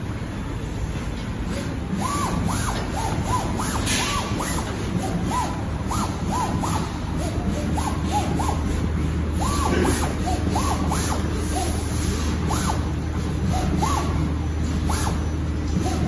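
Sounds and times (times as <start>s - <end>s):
steady low hum: 0.0s - 16.0s
plotter motors whining: 1.7s - 16.0s.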